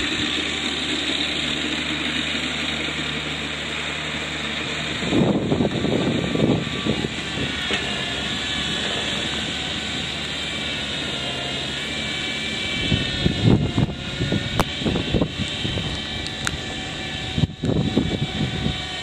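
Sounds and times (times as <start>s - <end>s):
snowblower rumbling through slush: 0.0s - 19.0s
tractor diesel engine running: 0.0s - 19.0s.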